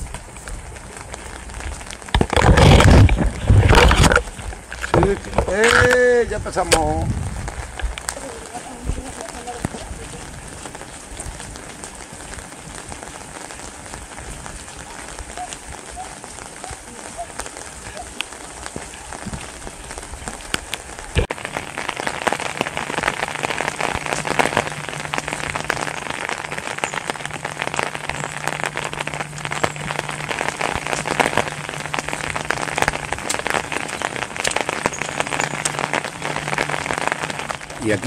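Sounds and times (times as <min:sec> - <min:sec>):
rain pattering on umbrella: 0:00.0 - 0:38.0.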